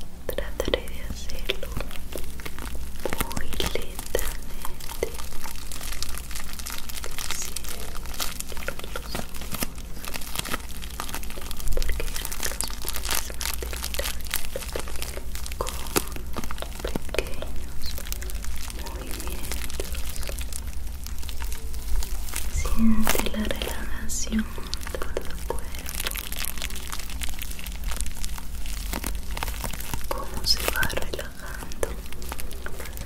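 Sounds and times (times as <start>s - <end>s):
plastic wrap crinkling: 0.0s - 33.0s.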